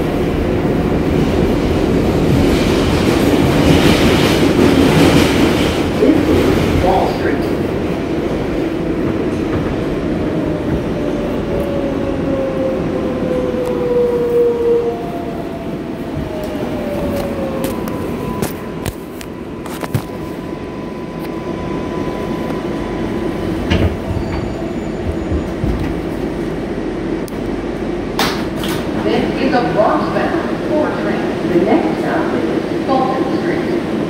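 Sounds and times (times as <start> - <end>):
subway car rumbling: 0.0 - 34.0
subway motor whine: 0.0 - 34.0.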